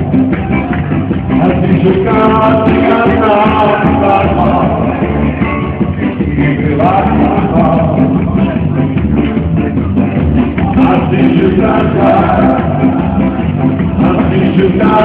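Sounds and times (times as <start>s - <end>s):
dance band with singer: 0.0s - 15.0s.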